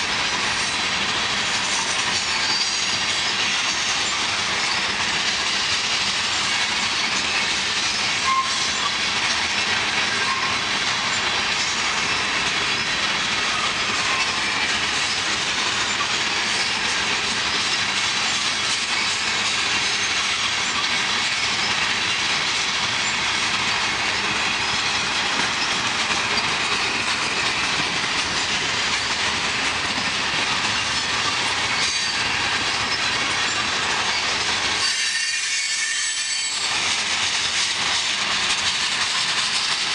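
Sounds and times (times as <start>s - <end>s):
clickety-clack over rail joints: 0.0s - 39.9s
train wheels on rails: 0.0s - 39.9s.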